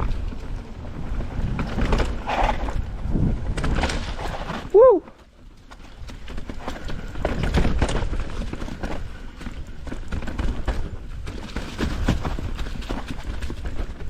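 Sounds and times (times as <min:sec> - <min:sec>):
bike rattling over rocks: 0:00.0 - 0:14.0.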